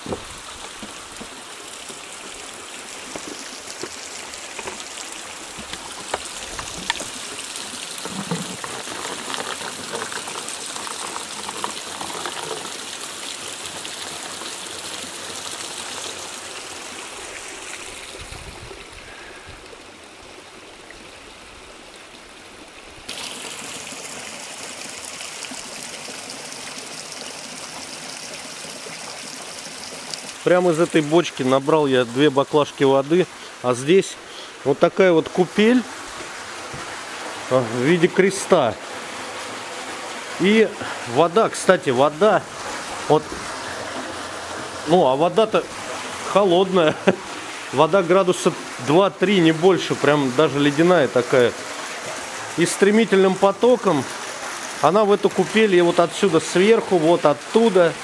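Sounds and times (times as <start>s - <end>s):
water splashing onto wooden decking: 0.0s - 19.6s, 23.1s - 58.0s
water filling plastic bottle: 0.0s - 19.7s, 23.1s - 58.0s.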